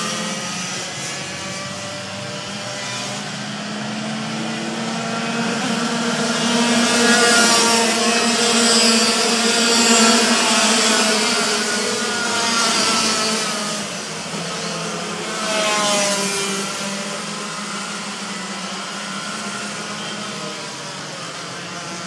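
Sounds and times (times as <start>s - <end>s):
racing kart engines passing: 0.0s - 22.0s.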